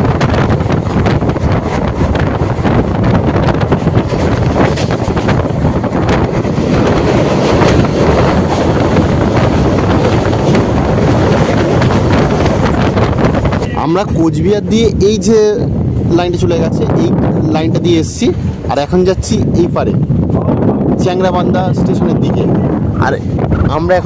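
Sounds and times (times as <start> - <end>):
train running noise: 0.0 - 24.0
wind buffeting microphone: 0.0 - 24.0.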